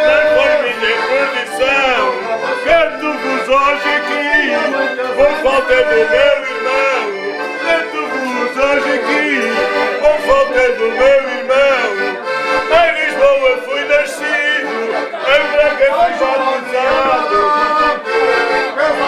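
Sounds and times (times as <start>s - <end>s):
accordion folk tune: 0.0s - 19.0s.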